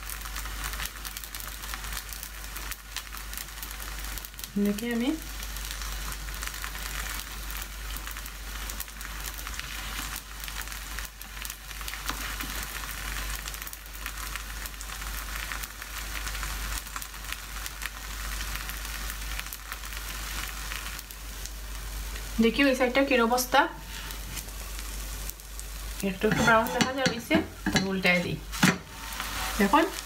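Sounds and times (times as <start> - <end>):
oil sizzling and crackling: 0.0 - 30.0.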